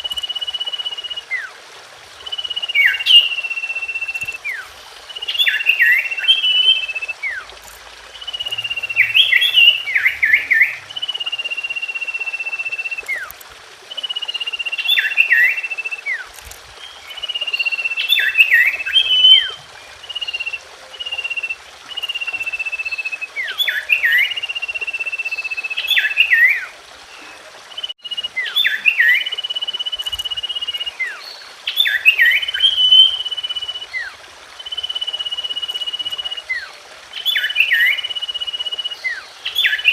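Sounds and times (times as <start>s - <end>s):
bird singing whistles and chirps: 2.2s - 7.5s, 8.2s - 13.3s, 13.9s - 39.9s.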